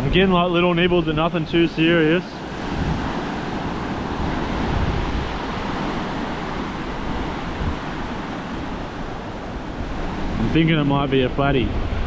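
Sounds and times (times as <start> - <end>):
ocean surf washing onto beach: 0.0 - 12.0
wind buffeting microphone: 0.0 - 12.0.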